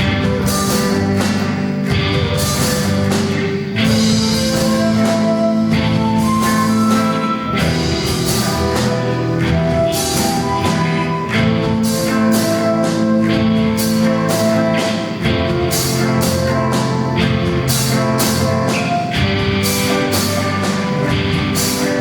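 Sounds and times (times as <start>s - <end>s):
flute: 0.0s - 22.0s
live rock band playing: 0.0s - 22.0s.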